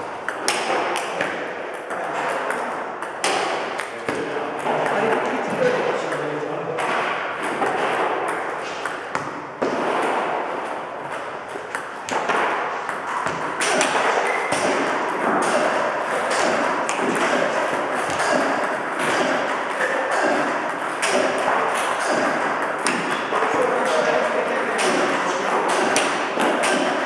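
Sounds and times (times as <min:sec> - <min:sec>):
table tennis balls clicking: 0:00.0 - 0:27.0.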